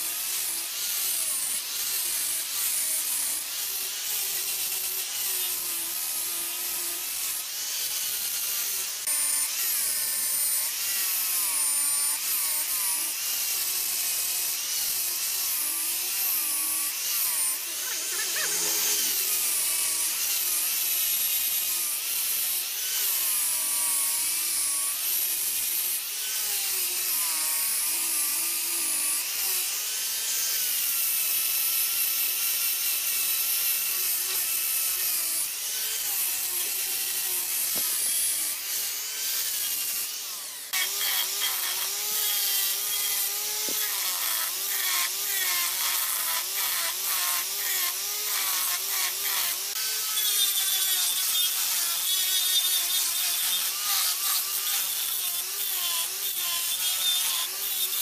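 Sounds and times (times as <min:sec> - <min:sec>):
electric grinder carving wood: 0:00.0 - 0:58.0.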